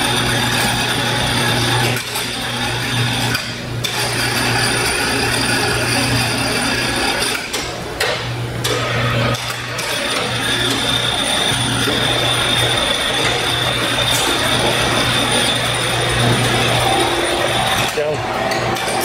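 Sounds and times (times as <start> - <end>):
chain hoist humming: 0.0 - 7.8, 8.6 - 19.0.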